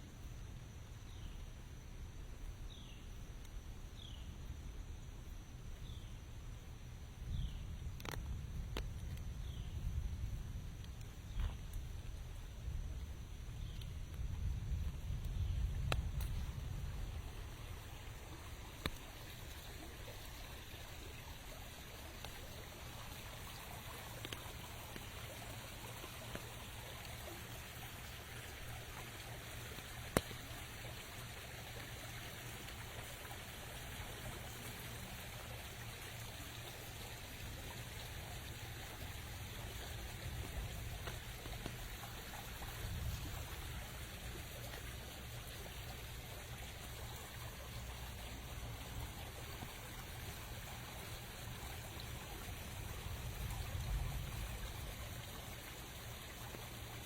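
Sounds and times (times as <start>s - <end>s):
rain: 0.0s - 57.0s
water trickling: 7.3s - 57.0s.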